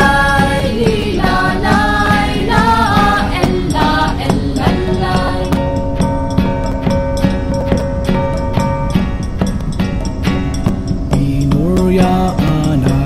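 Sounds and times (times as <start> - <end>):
folk song with voices singing: 0.0 - 13.0
instruments over a regular beat: 0.0 - 13.0.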